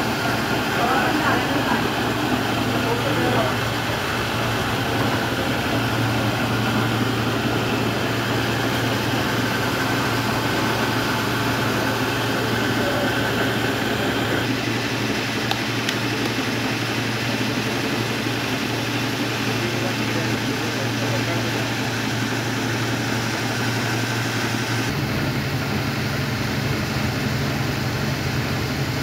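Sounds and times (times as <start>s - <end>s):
mill machinery droning: 0.0s - 29.0s.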